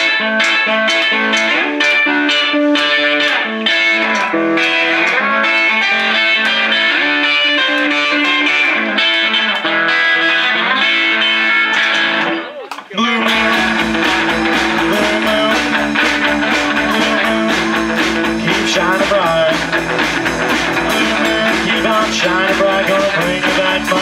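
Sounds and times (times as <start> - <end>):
electric guitar playing: 0.0 - 24.0.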